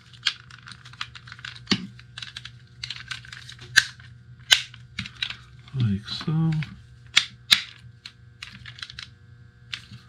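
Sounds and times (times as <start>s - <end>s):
plastic parts clicking and snapping: 0.0s - 9.1s.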